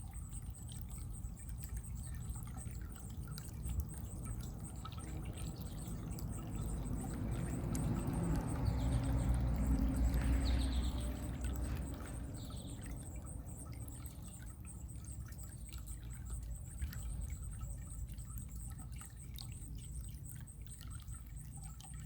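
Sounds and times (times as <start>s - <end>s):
running water pouring and trickling: 0.0s - 22.0s
water drips and splashes: 0.0s - 22.0s.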